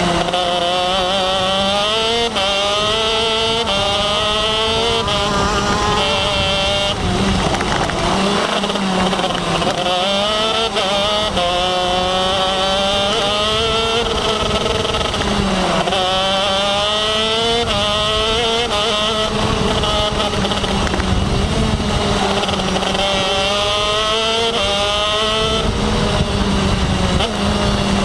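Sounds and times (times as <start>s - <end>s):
kart engine revving: 0.0s - 28.0s.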